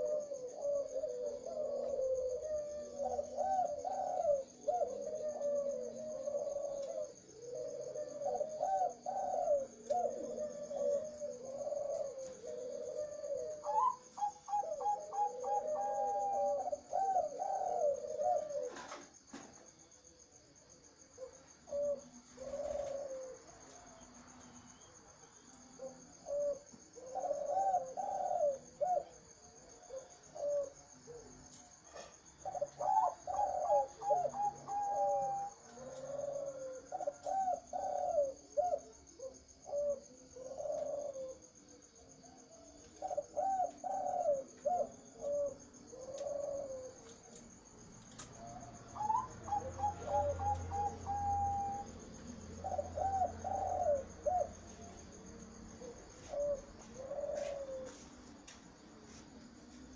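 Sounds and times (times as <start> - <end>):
doves cooing: 0.0 - 59.9.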